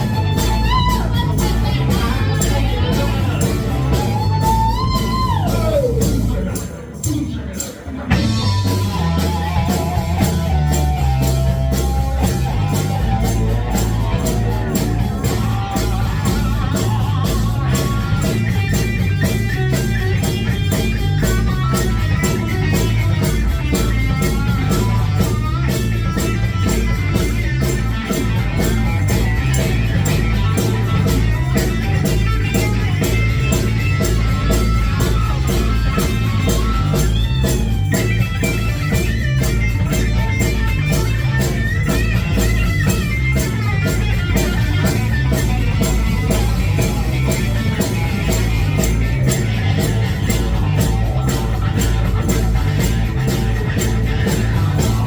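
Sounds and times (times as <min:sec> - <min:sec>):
electric guitar: 0:00.0 - 0:55.0
live rock band playing: 0:00.0 - 0:55.0.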